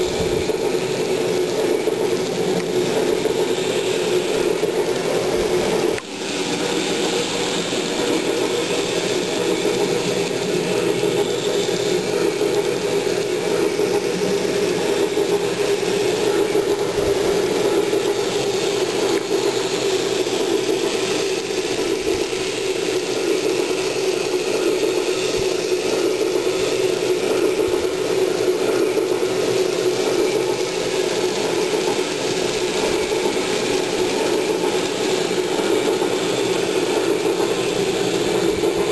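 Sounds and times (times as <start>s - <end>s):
model train motor whirring rattle: 0.0s - 38.9s.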